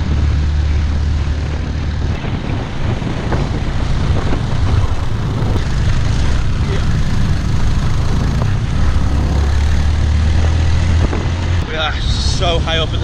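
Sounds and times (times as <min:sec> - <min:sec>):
motorbike engine running: 0:00.0 - 0:13.0
wind rush on microphone: 0:00.0 - 0:13.0.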